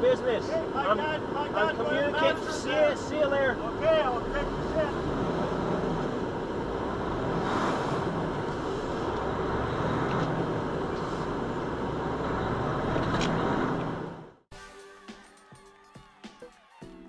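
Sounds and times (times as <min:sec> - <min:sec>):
vehicle road and engine noise: 0:00.0 - 0:14.5.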